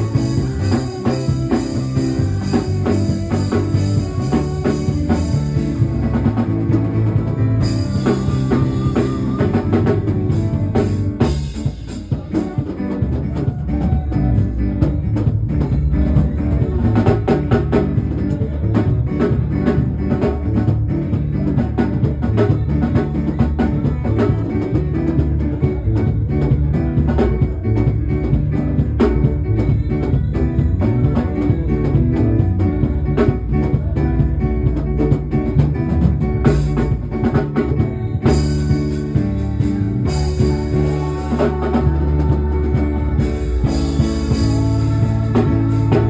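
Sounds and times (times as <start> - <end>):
bass and guitar: 0.0 - 46.0
drum kit steady beat: 0.0 - 46.0.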